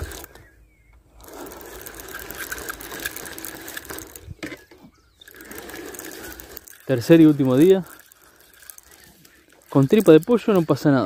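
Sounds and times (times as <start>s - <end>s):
fishing reel gears whirring: 0.0s - 11.0s.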